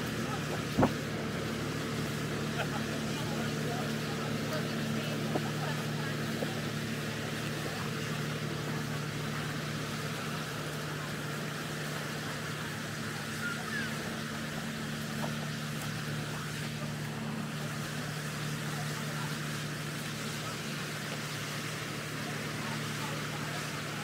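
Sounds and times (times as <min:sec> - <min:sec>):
outdoor background noise: 0:00.0 - 0:24.0
steady engine hum: 0:00.0 - 0:24.0.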